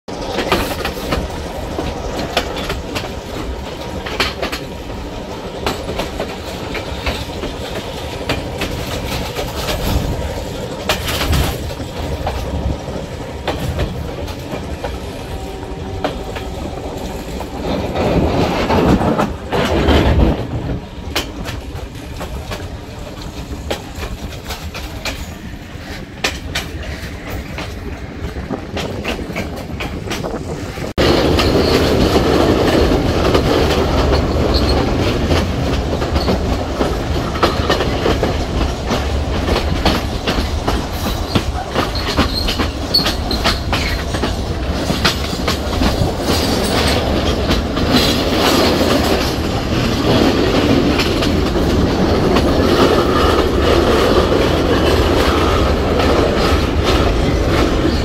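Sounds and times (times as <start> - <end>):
train rumble from inside carriage: 0.1 - 58.0.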